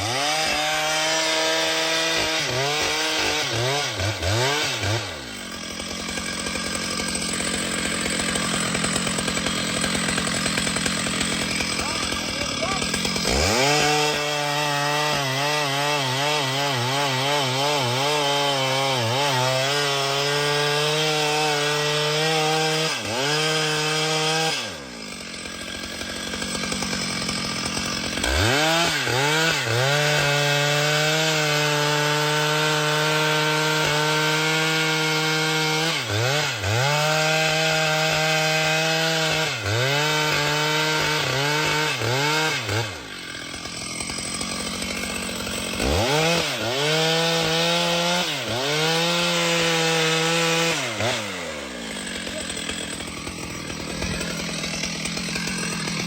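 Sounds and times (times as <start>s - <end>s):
chainsaw cutting tree trunk: 0.0s - 56.0s.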